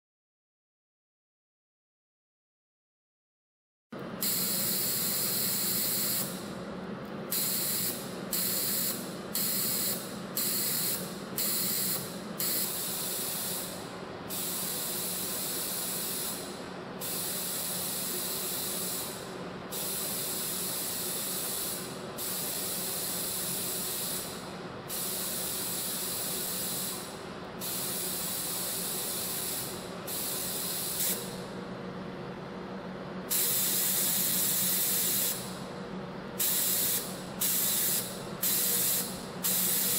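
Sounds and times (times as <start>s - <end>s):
machine high hiss: 4.2s - 6.6s, 7.3s - 31.5s, 33.3s - 35.6s, 36.4s - 39.9s.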